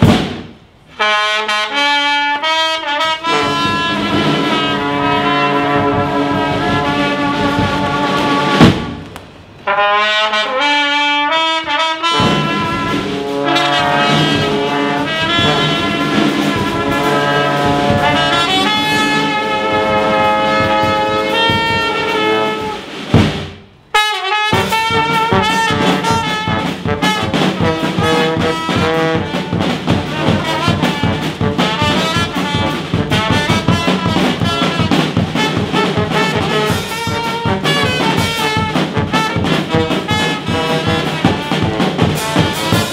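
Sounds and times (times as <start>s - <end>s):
brass band playing: 0.0s - 42.9s
bass drum beat: 3.7s - 9.0s, 12.2s - 23.6s, 24.6s - 42.9s.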